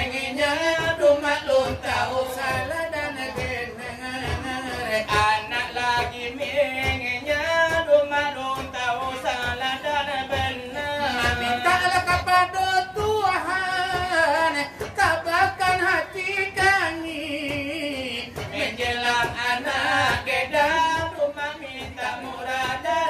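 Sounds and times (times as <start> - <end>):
hand beats on brass tray: 0.0 - 23.0.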